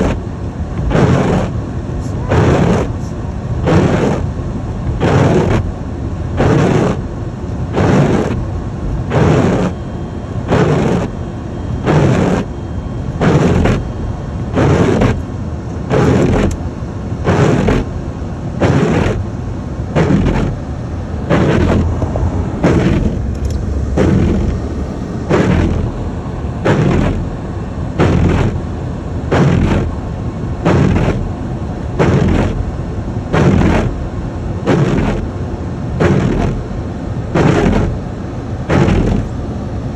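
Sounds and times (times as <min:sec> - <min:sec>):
windshield wipers swishing: 0:00.0 - 0:05.8, 0:06.4 - 0:07.1, 0:07.7 - 0:09.7, 0:10.4 - 0:12.5, 0:13.2 - 0:16.6, 0:17.2 - 0:18.0, 0:18.6 - 0:19.3, 0:20.0 - 0:28.7, 0:29.3 - 0:30.0, 0:30.6 - 0:31.4, 0:32.0 - 0:36.7, 0:37.4 - 0:39.5
car rumble: 0:00.0 - 0:39.9.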